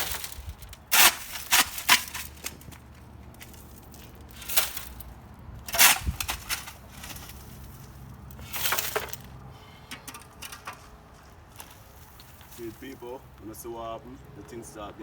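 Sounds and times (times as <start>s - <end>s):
shovel scraping rubble: 0.0s - 9.3s, 9.9s - 12.9s.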